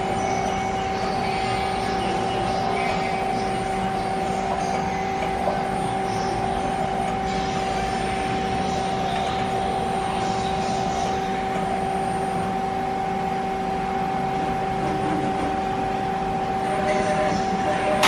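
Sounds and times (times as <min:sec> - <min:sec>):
lathe machine hum: 0:00.0 - 0:18.0
whining machine tones: 0:00.0 - 0:18.0.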